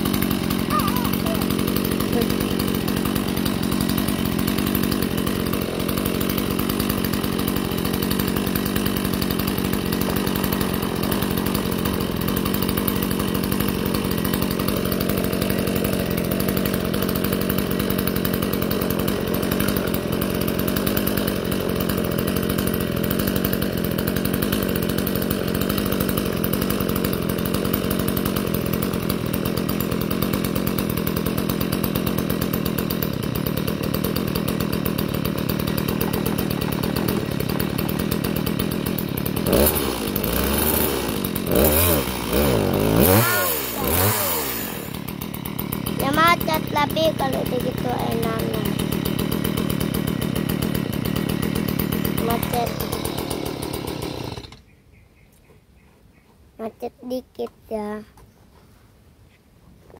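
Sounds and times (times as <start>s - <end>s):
chainsaw engine running: 0.0s - 54.7s.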